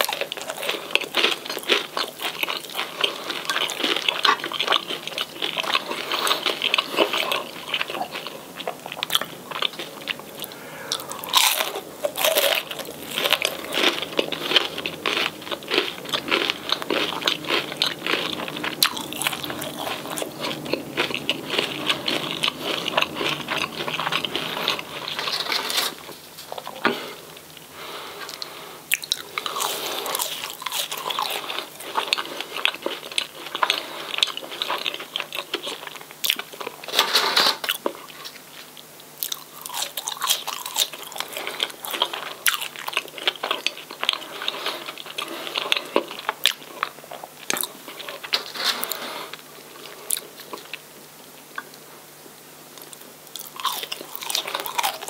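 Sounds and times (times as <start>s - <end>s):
chewing crispy fried food: 0.0s - 55.0s.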